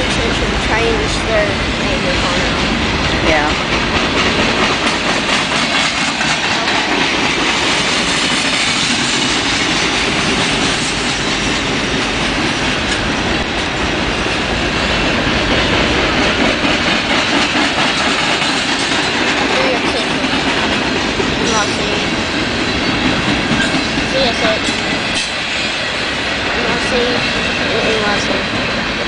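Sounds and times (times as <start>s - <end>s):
steel wheels rolling on rails: 0.0s - 29.0s.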